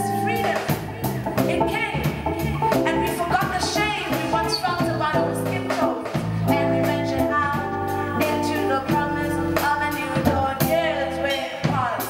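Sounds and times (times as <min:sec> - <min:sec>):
electric guitar: 0:00.0 - 0:11.7
bass guitar: 0:00.0 - 0:12.0
drums: 0:00.0 - 0:12.0
woman singing: 0:00.0 - 0:12.0.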